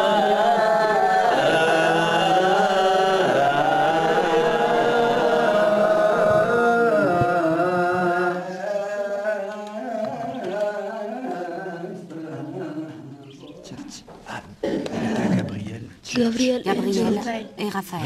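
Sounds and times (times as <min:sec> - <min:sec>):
voices chanting together: 0:00.0 - 0:15.5.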